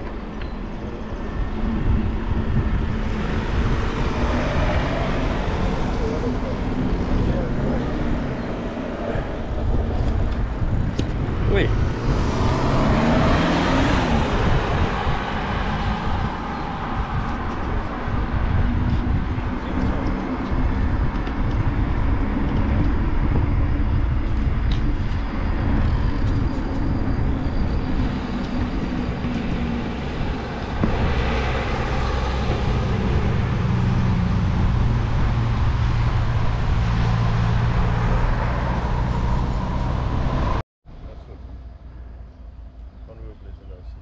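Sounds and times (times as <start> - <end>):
wind rush on microphone: 0.0 - 40.6.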